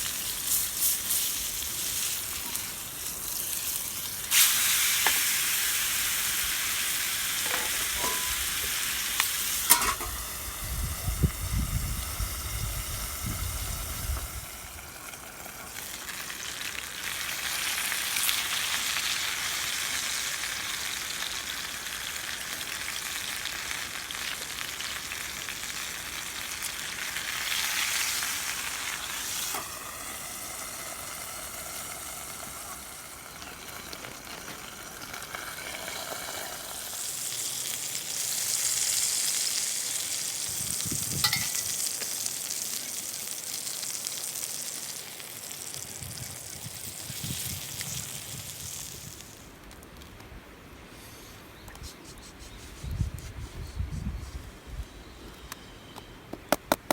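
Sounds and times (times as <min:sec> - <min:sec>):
food sizzling in frying pan: 0:00.0 - 0:49.6.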